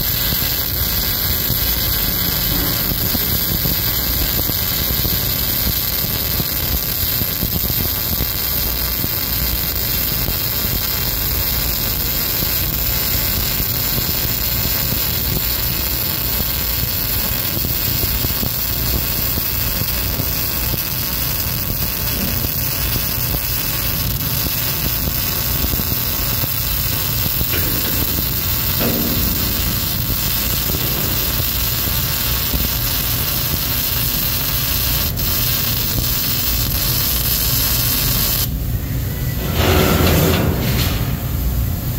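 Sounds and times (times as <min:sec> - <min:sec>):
arc welding hiss: 0:00.0 - 0:38.6.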